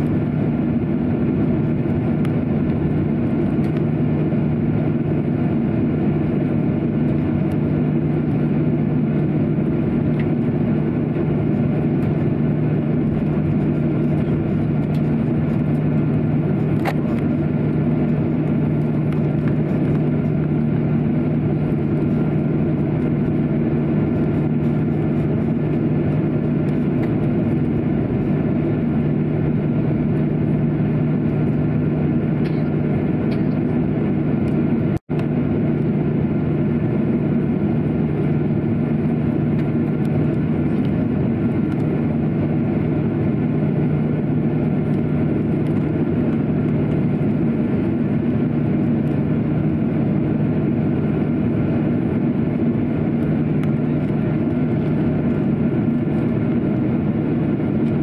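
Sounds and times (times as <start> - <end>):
jet engines humming: 0.0 - 58.0.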